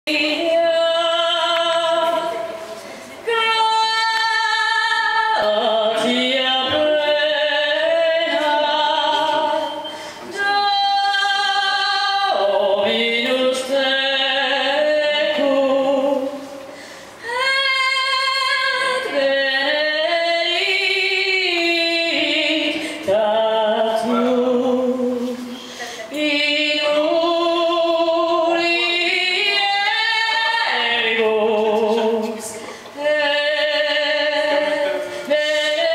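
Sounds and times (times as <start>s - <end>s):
woman singing through speaker: 0.0s - 35.9s.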